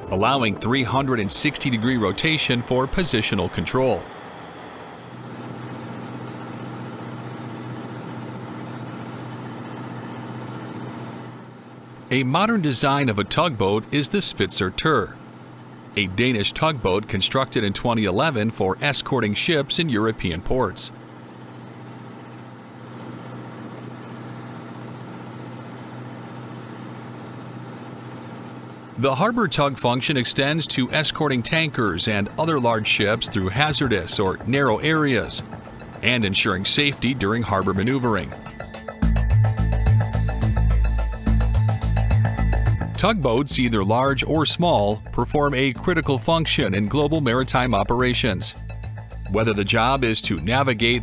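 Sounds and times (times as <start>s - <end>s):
boat engine humming: 0.0s - 51.0s.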